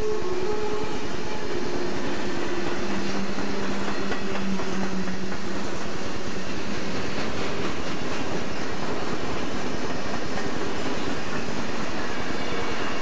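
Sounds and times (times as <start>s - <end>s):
steel wheels on rail: 0.0s - 13.0s
rail joint clicks: 1.6s - 13.0s.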